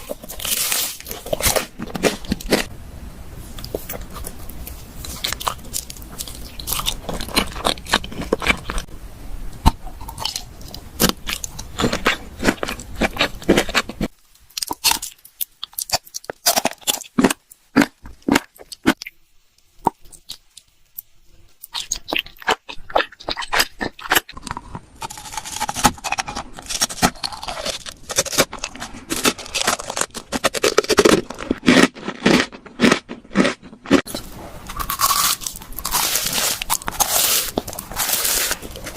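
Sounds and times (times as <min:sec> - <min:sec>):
person crunching and chewing food: 0:00.0 - 0:02.7, 0:03.5 - 0:08.9, 0:09.6 - 0:38.9.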